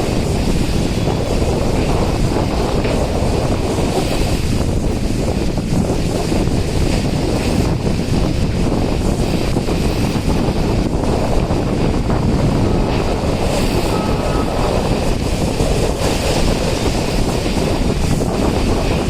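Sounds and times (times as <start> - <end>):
moving train running noise: 0.0 - 19.0
wind buffeting microphone: 0.0 - 19.0.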